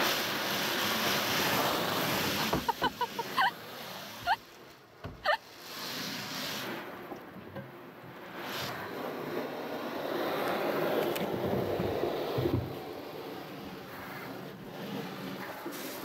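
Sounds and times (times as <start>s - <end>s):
hose water spraying: 0.0s - 7.4s, 8.0s - 16.0s.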